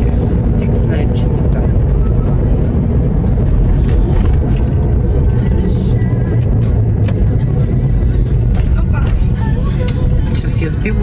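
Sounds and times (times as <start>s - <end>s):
car engine rumble: 0.0s - 11.0s
tyres on the road: 0.0s - 11.0s.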